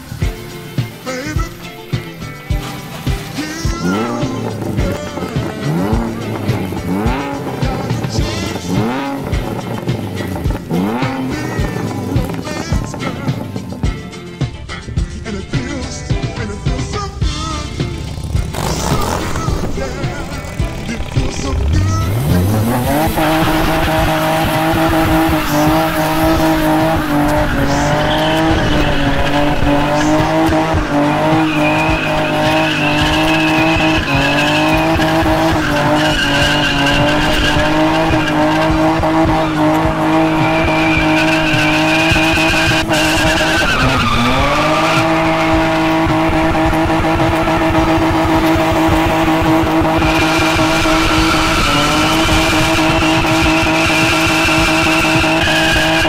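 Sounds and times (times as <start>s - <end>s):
tyres squealing: 1.0s - 56.0s
car engine revving high: 3.2s - 14.1s, 16.6s - 56.0s.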